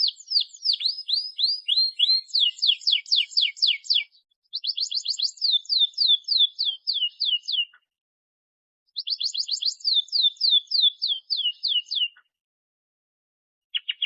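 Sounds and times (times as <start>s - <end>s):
canary singing: 0.0s - 7.8s, 9.0s - 12.2s, 13.7s - 14.0s.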